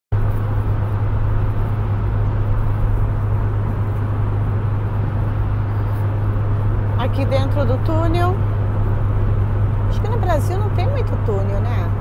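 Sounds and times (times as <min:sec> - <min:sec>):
car road noise drone: 0:00.1 - 0:12.0.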